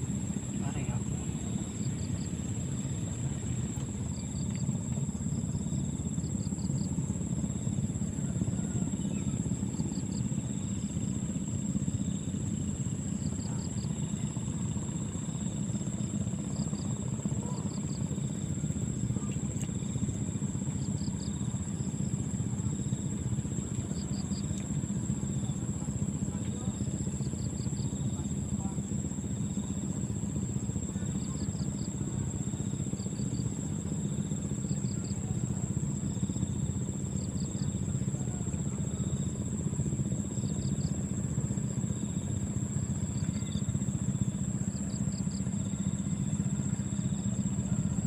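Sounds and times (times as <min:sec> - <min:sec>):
insect chirping: 0:00.0 - 0:48.0.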